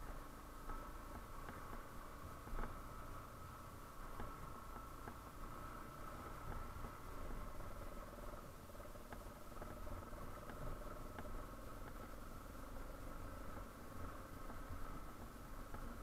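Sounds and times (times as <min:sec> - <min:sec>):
faint ticks: 0:00.0 - 0:16.0.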